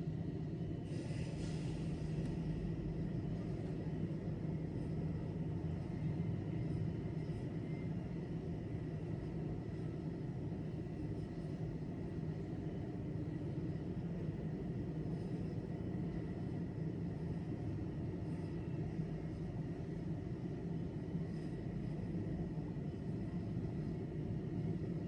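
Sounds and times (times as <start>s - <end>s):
faint high whine: 0.0s - 25.0s
low rumbling hum: 0.0s - 25.0s.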